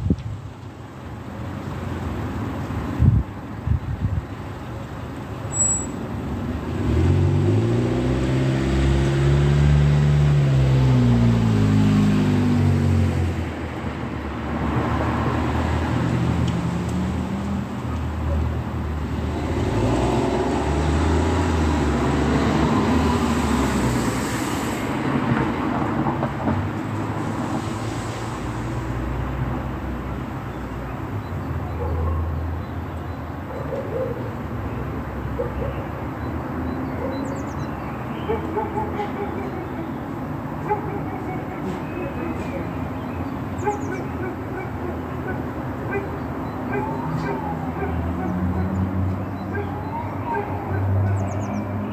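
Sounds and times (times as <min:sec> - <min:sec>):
traffic rumble: 0:00.0 - 0:51.9
vehicle engine passing by: 0:06.2 - 0:30.6, 0:34.6 - 0:51.9.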